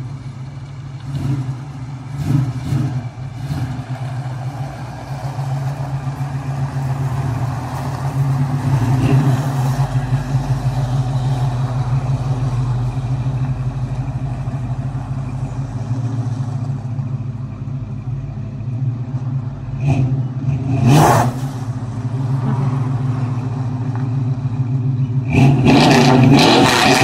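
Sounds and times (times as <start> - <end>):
truck engine running at low speed: 0.0 - 25.7.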